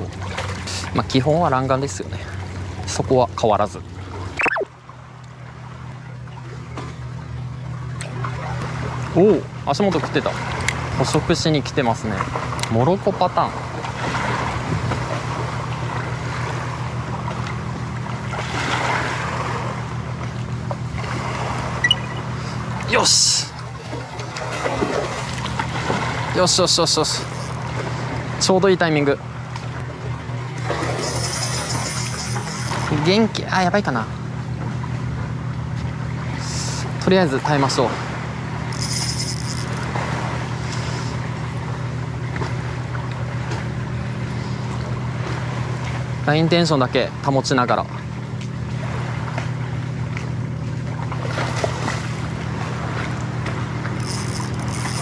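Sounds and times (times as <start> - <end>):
low engine-like hum: 0.0 - 55.0.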